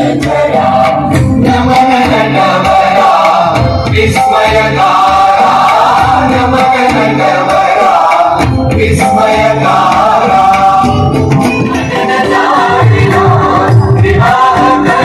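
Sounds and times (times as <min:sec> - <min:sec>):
singing with instrumental accompaniment: 0:00.0 - 0:15.0.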